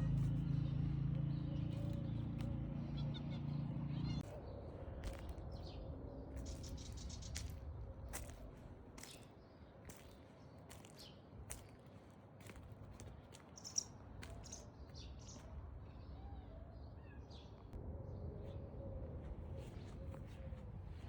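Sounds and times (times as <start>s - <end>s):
small birds chirping: 0.0s - 17.8s.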